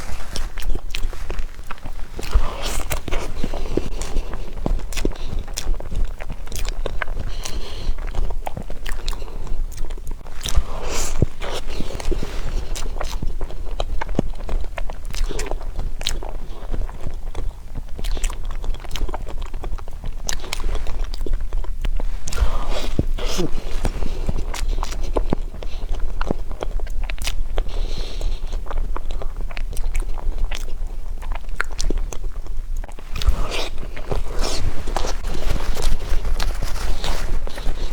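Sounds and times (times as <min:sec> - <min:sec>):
wet mouth clicks and smacks chewing: 0:00.4 - 0:37.9.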